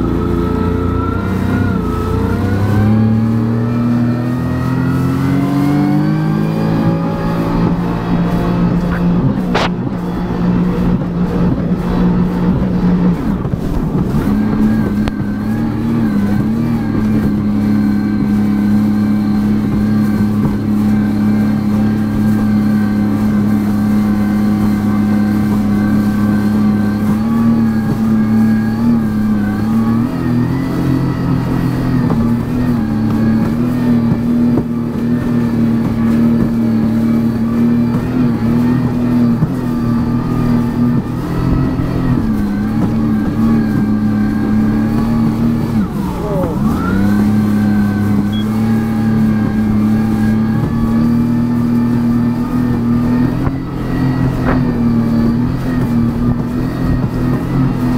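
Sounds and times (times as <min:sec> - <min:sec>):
jet ski engine running: 0:00.0 - 0:57.9.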